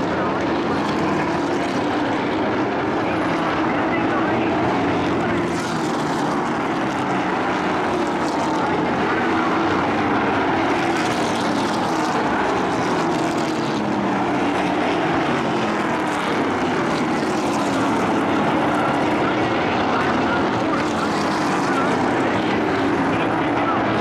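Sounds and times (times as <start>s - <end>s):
race truck engines droning: 0.0s - 24.0s.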